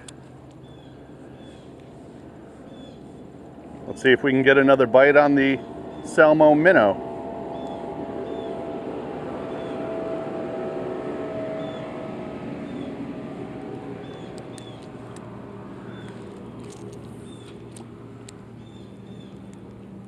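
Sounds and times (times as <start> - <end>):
distant engine droning: 0.0 - 20.0.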